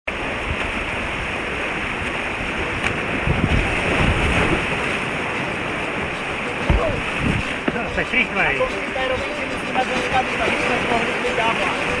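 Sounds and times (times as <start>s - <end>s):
water and wind buffeting microphone: 0.1s - 12.0s
whitewater river roaring: 0.1s - 12.0s.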